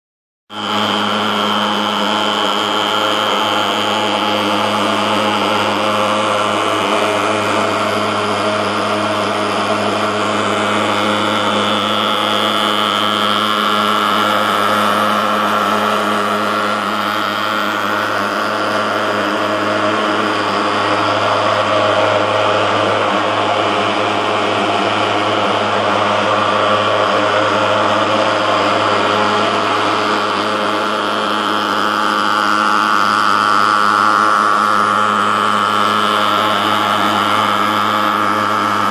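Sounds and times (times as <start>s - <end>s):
thermal fogger buzzing drone: 0.5s - 38.9s.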